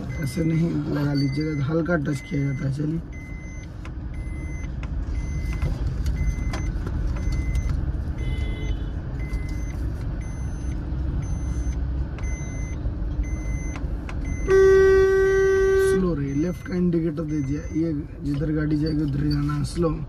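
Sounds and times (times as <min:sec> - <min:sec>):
engine and road rumble: 0:00.0 - 0:20.0
turn indicator ticking: 0:00.0 - 0:20.0.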